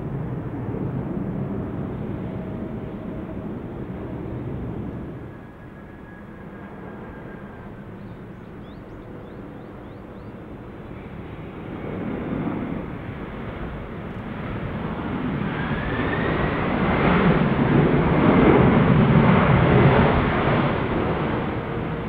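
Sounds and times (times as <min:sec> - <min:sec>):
jet engine rumble: 0:00.0 - 0:22.0
jet engines spooling up whine: 0:00.0 - 0:22.0.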